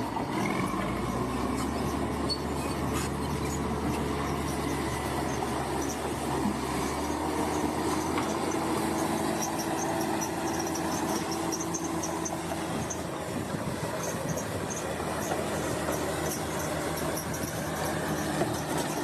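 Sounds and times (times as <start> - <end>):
bulldozer diesel engine: 0.0 - 19.0.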